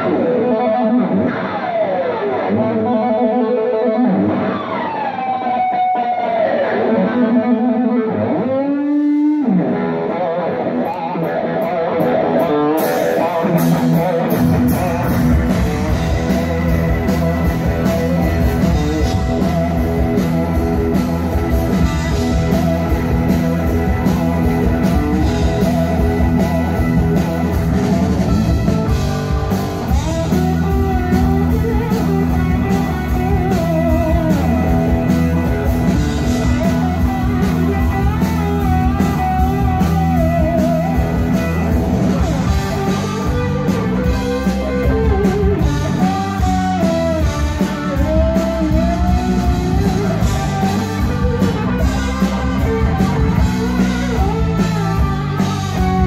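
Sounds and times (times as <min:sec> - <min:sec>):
bass guitar: 0:00.0 - 0:56.0
drums: 0:00.0 - 0:56.0
electric guitar sliding notes: 0:00.0 - 0:56.0.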